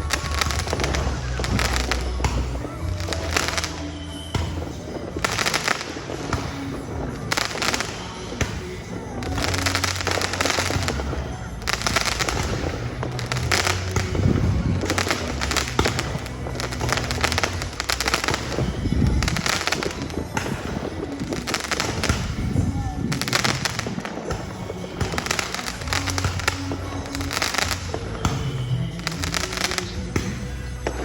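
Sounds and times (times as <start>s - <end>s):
fireworks crackling pops: 0.0s - 31.0s.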